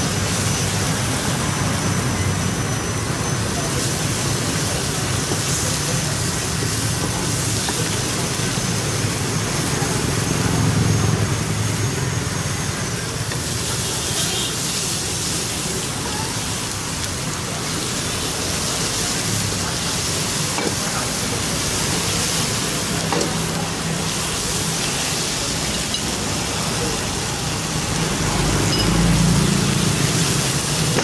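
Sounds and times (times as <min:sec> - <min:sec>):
chicken sizzling in hot fat: 0:00.0 - 0:31.0.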